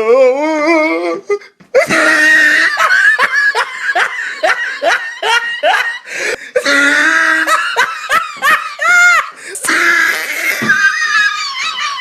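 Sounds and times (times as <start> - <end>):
person laughing hard: 1.8 - 12.0.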